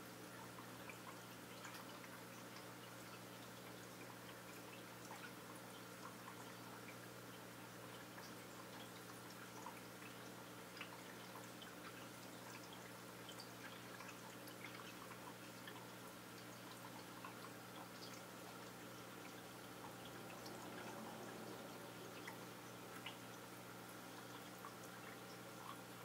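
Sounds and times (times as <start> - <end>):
aquarium low hum: 0.0 - 26.0
water drips and plinks: 0.4 - 26.0.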